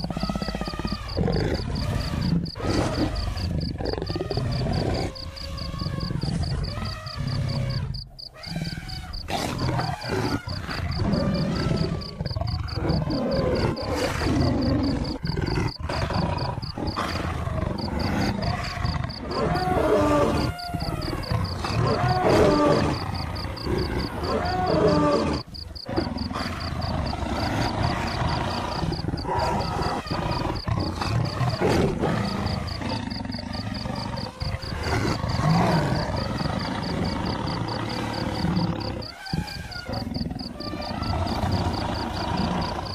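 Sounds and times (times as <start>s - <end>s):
big cat growling and roaring: 0.0s - 42.9s.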